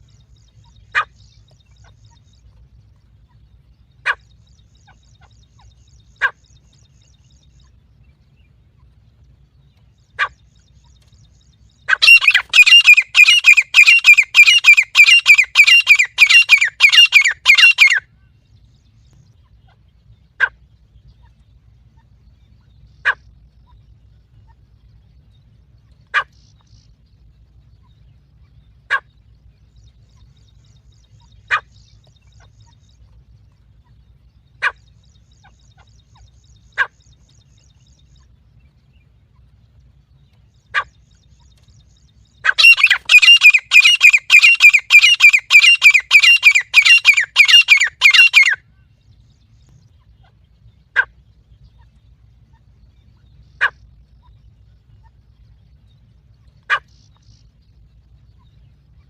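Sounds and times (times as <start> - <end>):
francolin calls: 0.0 - 59.0.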